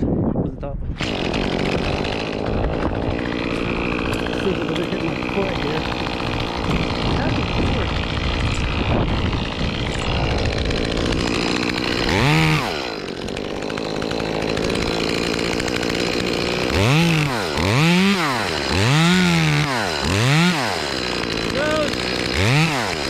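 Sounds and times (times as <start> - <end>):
chainsaw running and cutting: 0.9 - 23.0.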